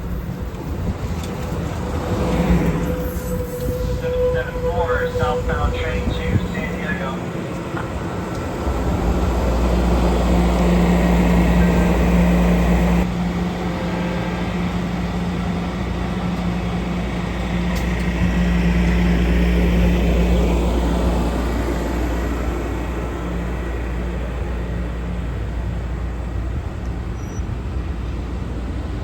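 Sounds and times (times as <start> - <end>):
diesel locomotive drone: 0.0 - 29.0
low rumble of train: 0.0 - 29.0.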